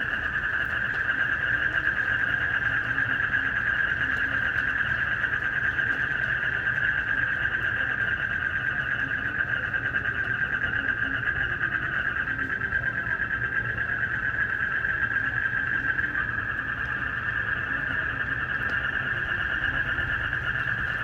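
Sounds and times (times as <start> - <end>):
crickets chirping: 0.0 - 21.0
frogs calling: 0.0 - 21.0.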